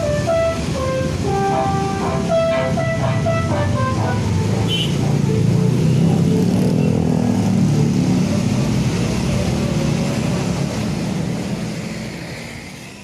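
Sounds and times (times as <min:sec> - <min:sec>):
bus diesel engine running: 0:00.0 - 0:12.9.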